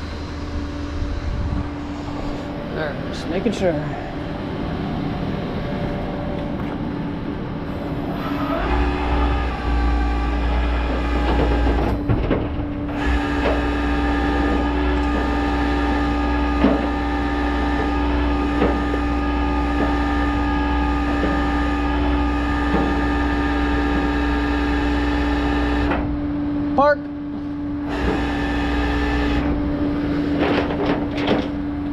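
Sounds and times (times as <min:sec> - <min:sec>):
hydraulic low rumble: 0:00.0 - 0:31.9
hydraulic whine: 0:00.0 - 0:31.9.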